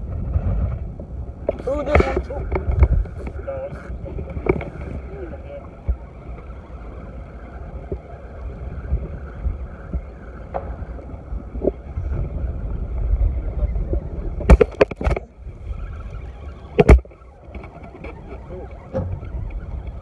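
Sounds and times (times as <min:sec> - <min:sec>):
wind and water rumble: 0:00.0 - 0:20.0.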